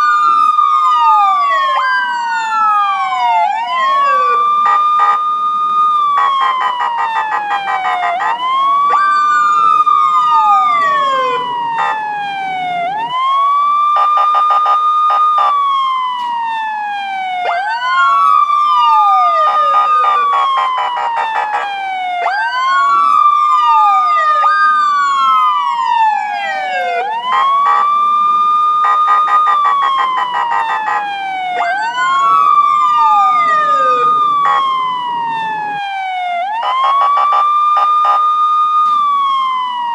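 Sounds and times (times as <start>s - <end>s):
fast pulsing siren: 0.0s - 39.9s
police car siren wailing: 0.0s - 39.9s
second siren tone sweeping down: 0.0s - 39.9s.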